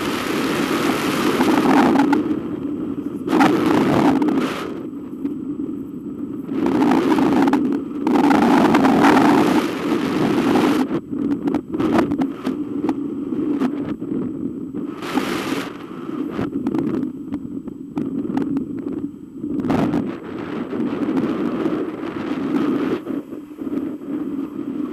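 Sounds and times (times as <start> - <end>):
wind rushing over microphone: 0.0 - 24.9.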